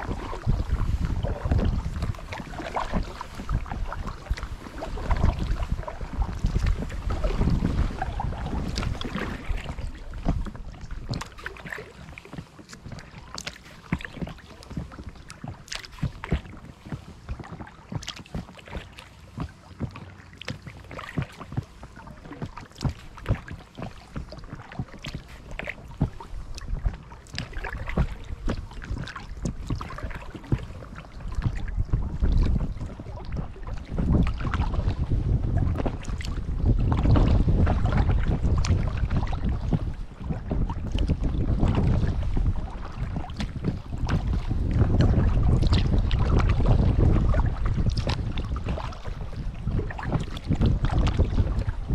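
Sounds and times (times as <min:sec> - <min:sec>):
kayak paddle splashing: 0:00.0 - 0:51.9
wind rumble on microphone: 0:00.0 - 0:51.9.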